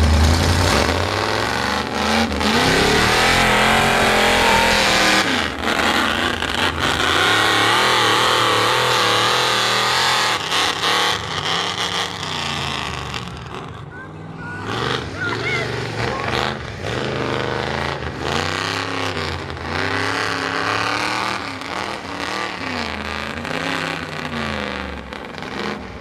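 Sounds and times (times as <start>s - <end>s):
open-exhaust engine revving: 0.0s - 26.0s.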